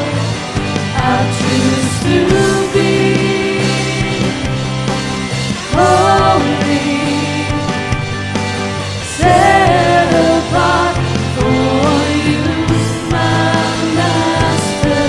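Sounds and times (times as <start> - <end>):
band and singers performing praise song: 0.0 - 15.0.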